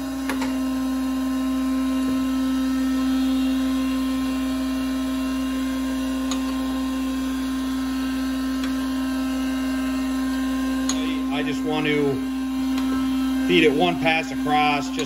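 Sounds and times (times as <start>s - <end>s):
surface grinder hum and whine: 0.0s - 15.0s.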